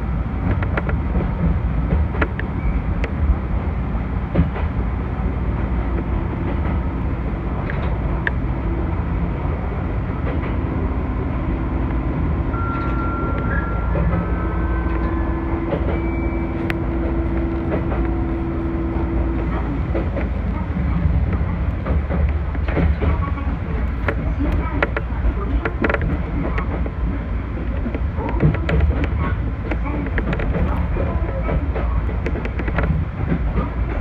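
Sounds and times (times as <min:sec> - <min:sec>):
electric train rumbling: 0:00.0 - 0:34.0
wheels clicking on rails: 0:05.5 - 0:34.0.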